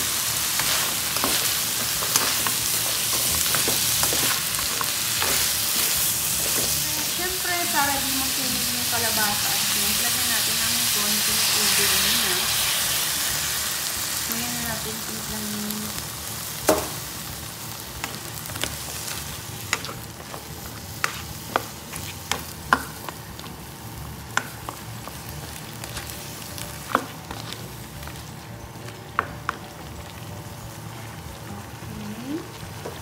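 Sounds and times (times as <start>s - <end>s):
food sizzling in hot pan: 0.0s - 33.0s.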